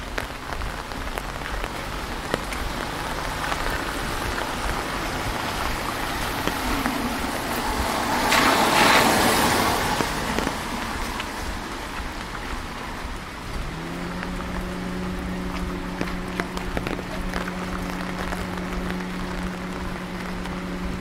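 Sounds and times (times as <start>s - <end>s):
drips: 0.0s - 20.9s
car tyres hissing on wet road: 0.0s - 21.0s
rain falling on street: 0.0s - 21.0s.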